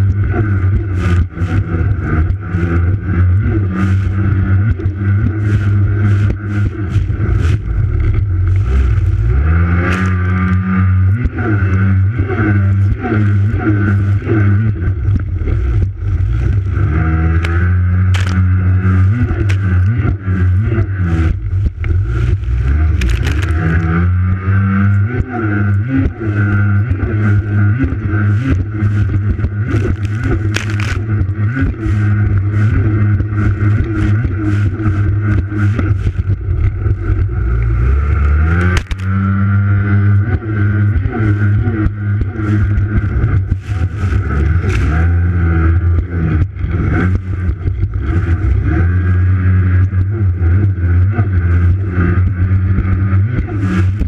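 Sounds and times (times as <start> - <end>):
jet ski engine running hard: 0.0 - 54.0.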